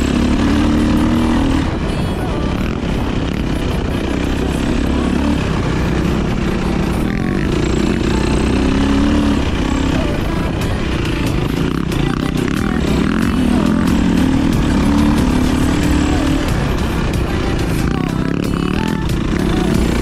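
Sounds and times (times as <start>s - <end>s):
dirt bike engine revving: 0.0s - 20.0s
steady rushing noise: 0.0s - 20.0s.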